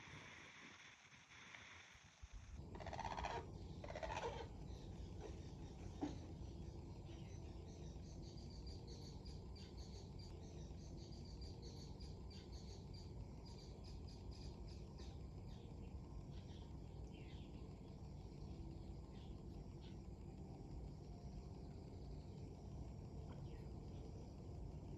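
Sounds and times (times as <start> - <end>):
small birds chirping: 2.6 - 24.9.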